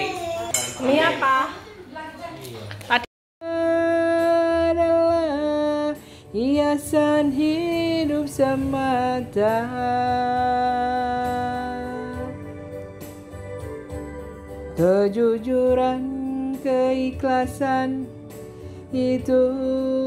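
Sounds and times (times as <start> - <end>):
person singing slow song: 3.4 - 20.0.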